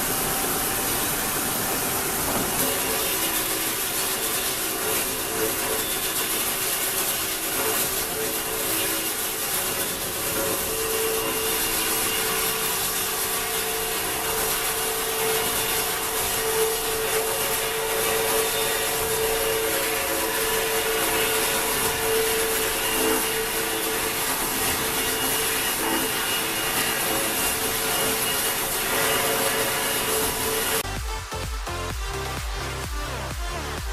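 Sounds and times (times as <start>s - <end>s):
power saw rasping into wood: 0.0s - 31.0s
motor whine: 0.0s - 33.9s.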